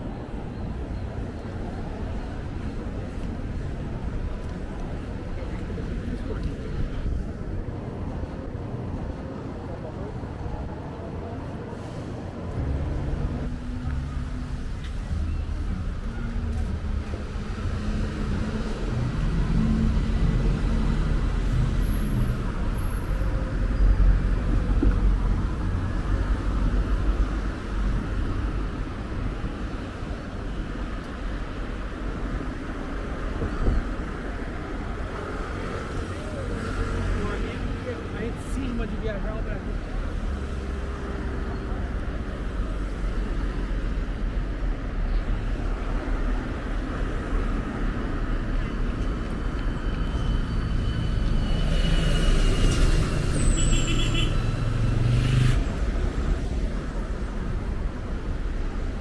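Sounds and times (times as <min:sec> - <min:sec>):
low traffic rumble: 0:00.0 - 0:59.0.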